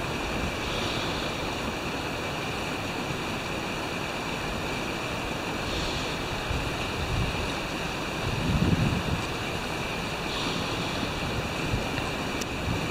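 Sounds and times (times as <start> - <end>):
water rushing: 0.0 - 12.9.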